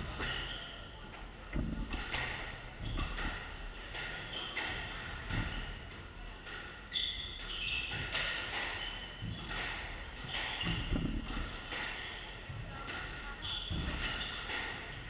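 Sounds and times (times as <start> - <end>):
shoes squeaking on wooden floor: 0.0 - 5.9, 6.9 - 15.0.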